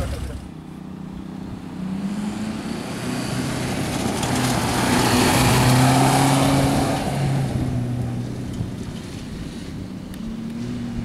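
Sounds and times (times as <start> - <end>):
gravel road noise: 0.0 - 11.0
rally car engine passing: 0.0 - 11.0.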